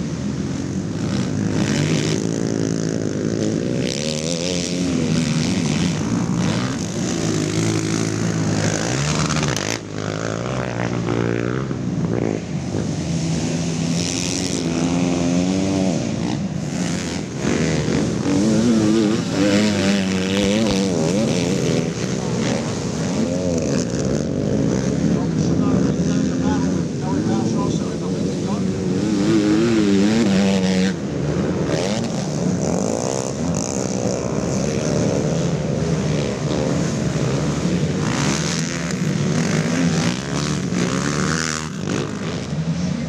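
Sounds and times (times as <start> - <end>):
quad engines revving: 0.0 - 43.0.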